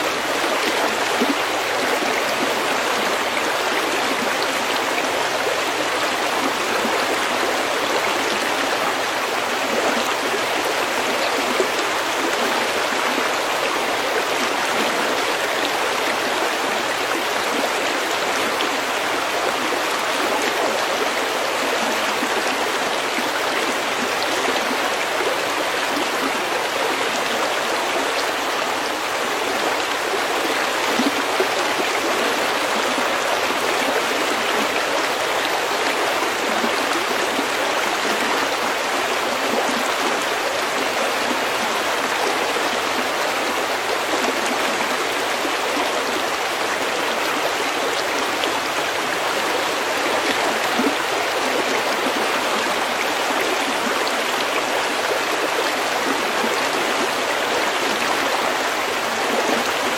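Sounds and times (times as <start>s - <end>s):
stream water over pebbles: 0.0s - 59.9s.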